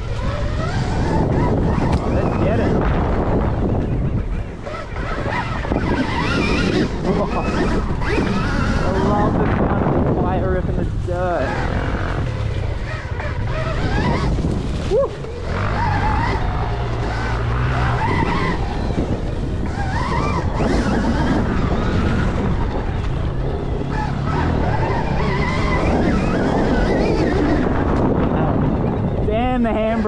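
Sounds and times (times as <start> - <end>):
electric motor whining: 0.0 - 30.0
wind: 0.0 - 30.0.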